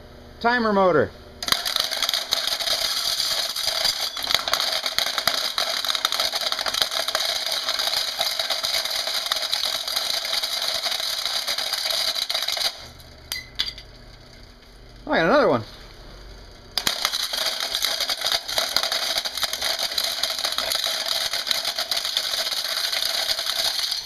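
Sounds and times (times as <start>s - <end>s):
garbage disposal grinding metal: 1.4s - 14.6s, 16.8s - 24.0s.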